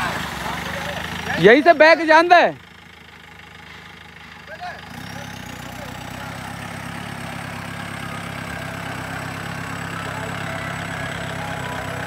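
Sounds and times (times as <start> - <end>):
jeep engine running at low revs: 0.0 - 12.0.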